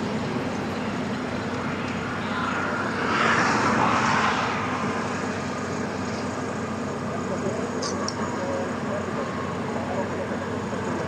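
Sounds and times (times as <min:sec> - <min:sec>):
heavy diesel engine running: 0:00.0 - 0:03.8, 0:04.6 - 0:11.0.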